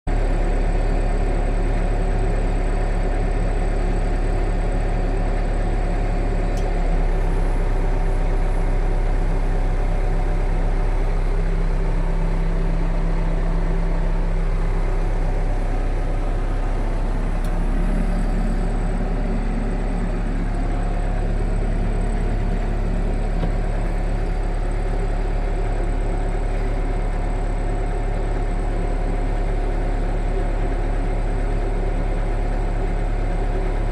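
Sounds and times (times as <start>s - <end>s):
heavy machine engine rumbling: 0.1s - 33.9s.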